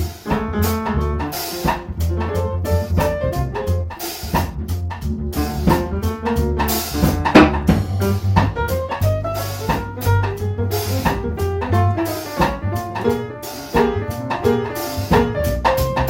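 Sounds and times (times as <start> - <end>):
jazz trio playing: 0.0 - 16.0
sharp drum hit: 0.0 - 16.0.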